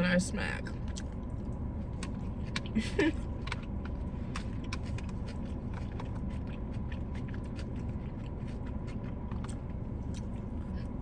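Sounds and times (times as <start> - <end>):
steady low hum: 0.0 - 11.0
chewing and wet mouth clicks: 0.8 - 11.0.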